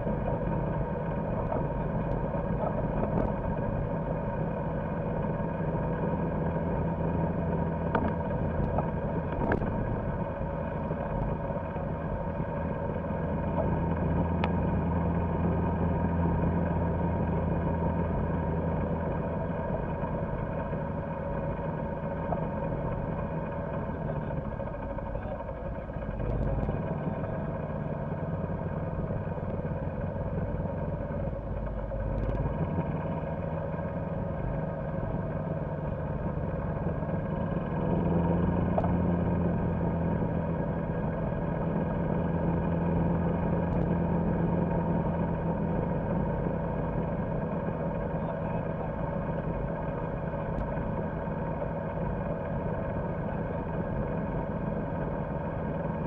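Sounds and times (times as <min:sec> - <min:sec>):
golf cart motor humming: 0:00.0 - 0:56.0.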